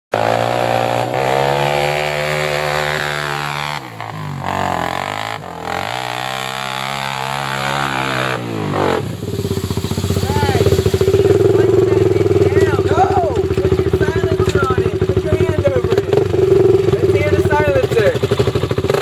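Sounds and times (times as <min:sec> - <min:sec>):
quad engine revving: 0:00.1 - 0:19.0.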